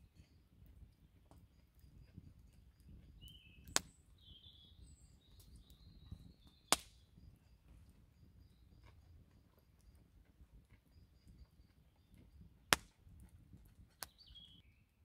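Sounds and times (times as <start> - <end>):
campfire crackling: 0.0 - 14.6.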